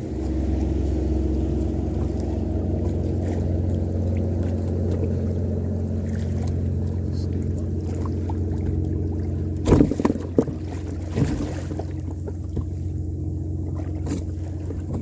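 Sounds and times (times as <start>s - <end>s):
outboard motor running steadily: 0.0s - 15.0s.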